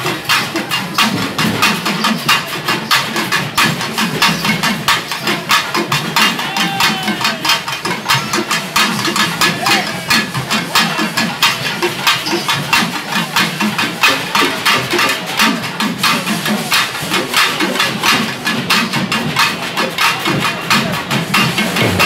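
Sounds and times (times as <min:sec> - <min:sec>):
barrel drums beaten: 0:00.0 - 0:22.0.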